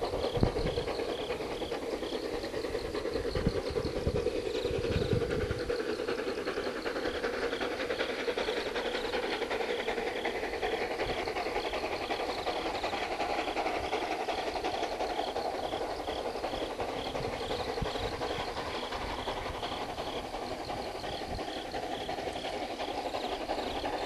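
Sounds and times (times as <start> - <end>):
steam hissing: 0.0 - 24.0
steam locomotive exhaust beating: 0.0 - 24.0.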